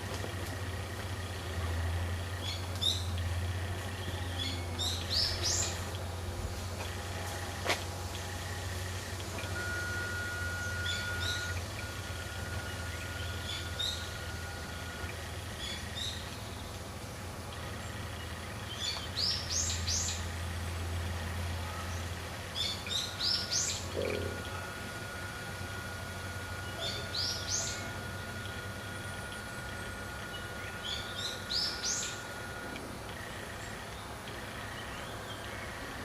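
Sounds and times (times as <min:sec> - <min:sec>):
faint steady tone: 0:00.0 - 0:36.0
songbirds chirping: 0:00.5 - 0:36.0.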